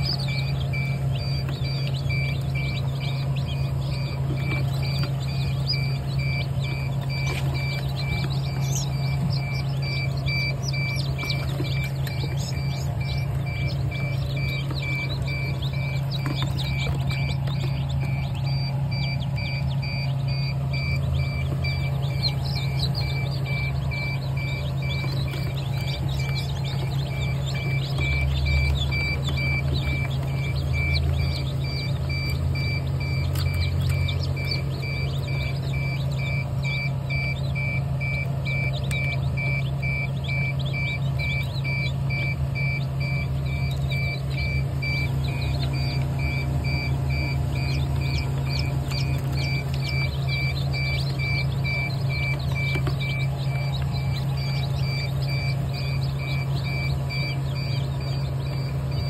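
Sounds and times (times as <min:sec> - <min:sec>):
chicks peeping: 0:00.0 - 0:59.0
high beeps: 0:00.0 - 0:59.0
low machine hum: 0:00.0 - 0:59.0.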